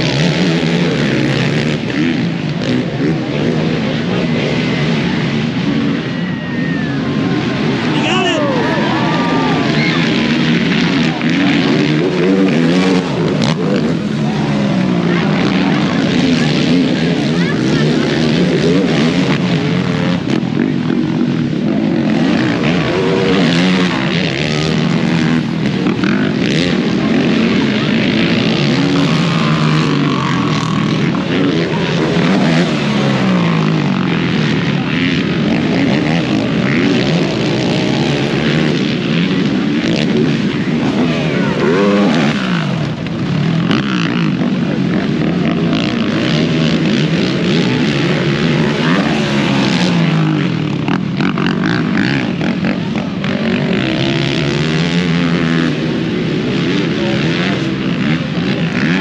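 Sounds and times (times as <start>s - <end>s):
atv engines revving: 0.0s - 59.0s.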